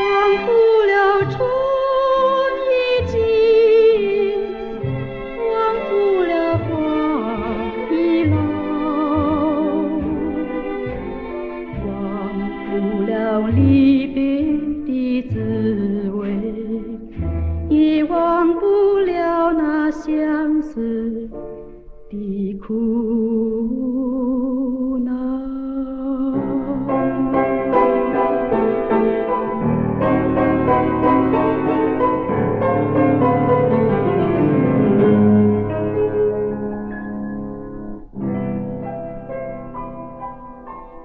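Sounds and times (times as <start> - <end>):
instrumental backing music: 0.0 - 22.6, 25.9 - 41.0.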